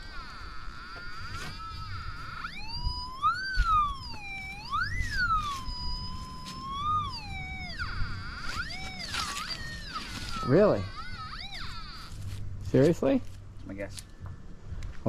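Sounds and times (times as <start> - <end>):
metal detector tone warbling: 0.0 - 13.3.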